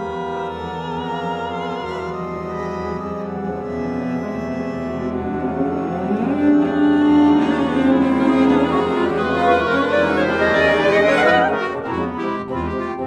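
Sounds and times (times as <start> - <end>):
bowed cello: 0.0 - 13.0.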